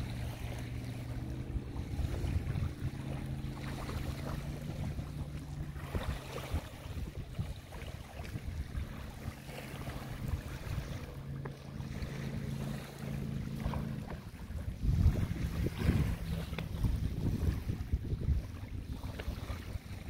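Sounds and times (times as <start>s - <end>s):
motorboat engine humming: 0.0s - 20.0s
small waves lapping: 0.0s - 20.0s
wind buffeting microphone: 0.0s - 20.0s.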